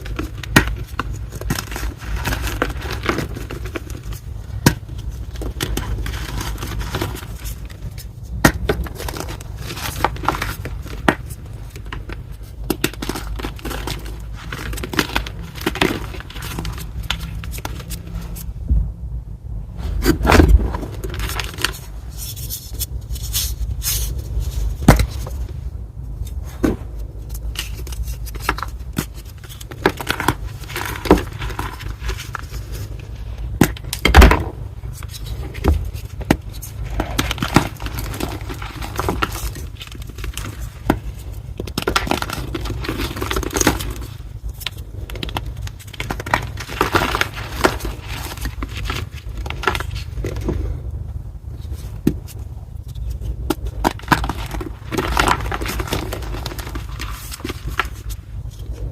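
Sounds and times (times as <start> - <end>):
chalk block crunching and cracking: 0.0 - 18.6, 20.0 - 58.9.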